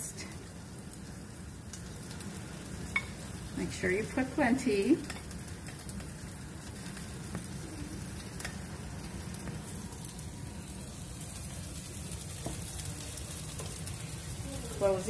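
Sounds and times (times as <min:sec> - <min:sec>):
tortillas sizzling in a skillet: 0:00.0 - 0:15.0.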